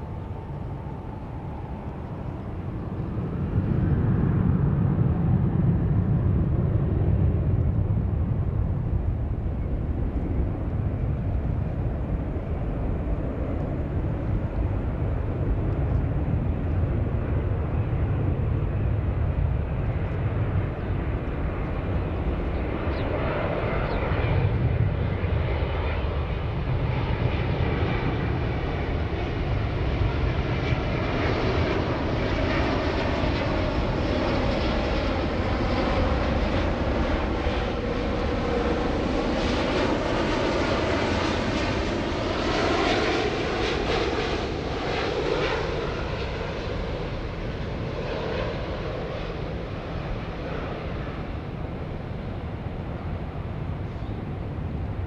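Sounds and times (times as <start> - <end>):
jet airliner flying past: 0.0 - 55.0.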